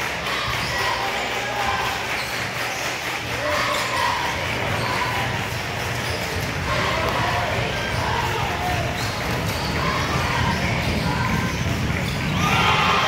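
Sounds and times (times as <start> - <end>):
murmur of spectators: 0.0 - 13.0.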